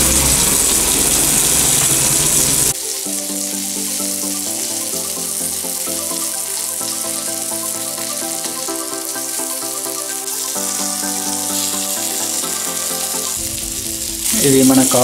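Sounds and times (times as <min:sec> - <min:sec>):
background music with held notes: 0:00.0 - 0:15.0
chicken frying in oil: 0:00.0 - 0:15.0.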